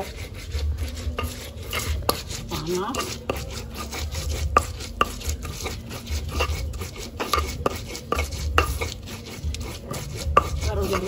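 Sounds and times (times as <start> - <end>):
stone pestle grinding in mortar: 0.0 - 11.0.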